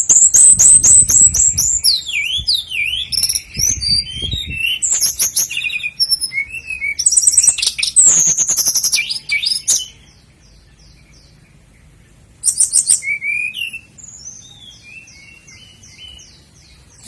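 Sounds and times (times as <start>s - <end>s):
nightingale singing: 0.0s - 17.0s.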